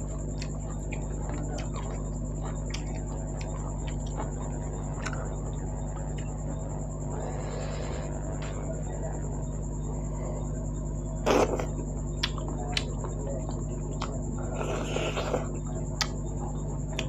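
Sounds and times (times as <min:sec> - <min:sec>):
mouth chewing and smacking: 0:00.0 - 0:08.6, 0:10.8 - 0:17.0
electrical hum: 0:00.0 - 0:17.0.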